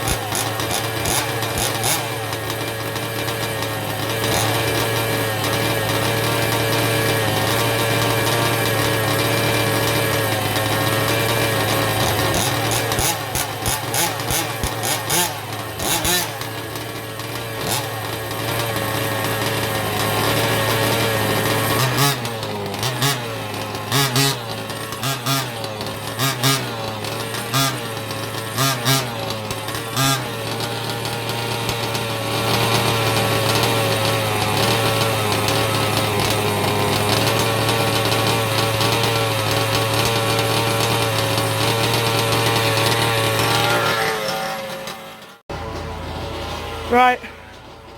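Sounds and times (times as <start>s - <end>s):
engine throttle blips: 0.0s - 47.9s
small two-stroke engines running: 0.0s - 47.9s.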